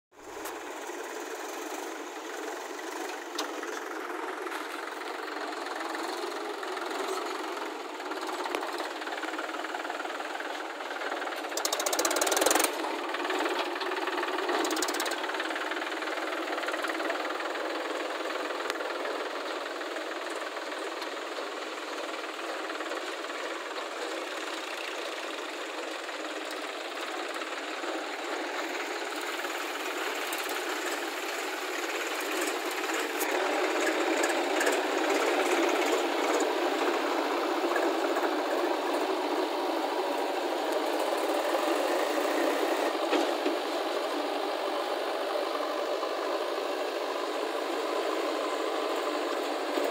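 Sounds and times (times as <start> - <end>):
tractor diesel engine chugging: 0.2 - 49.9.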